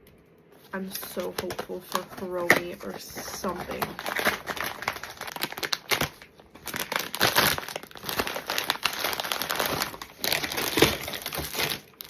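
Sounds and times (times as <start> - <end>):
crinkly packaging crackling: 0.6 - 12.0.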